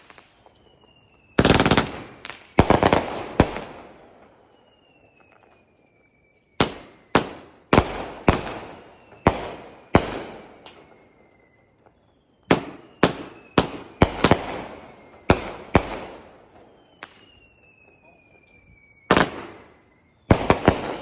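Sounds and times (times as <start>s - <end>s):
falling whistle: 0.0s - 21.0s
fireworks bangs: 0.0s - 21.0s.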